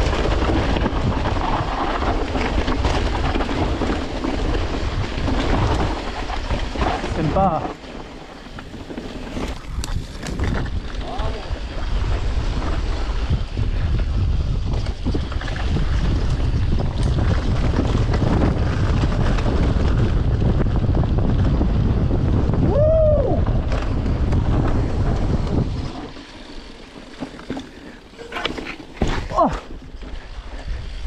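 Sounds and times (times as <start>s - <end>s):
wind buffeting microphone: 0.0s - 26.6s
bike rolling rumble: 0.0s - 31.0s.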